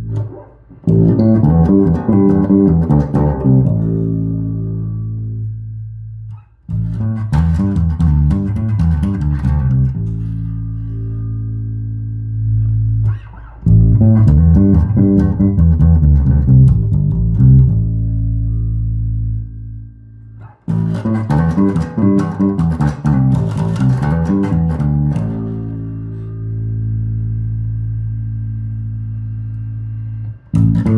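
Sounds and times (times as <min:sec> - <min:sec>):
electric bass guitar: 0:00.0 - 0:30.9.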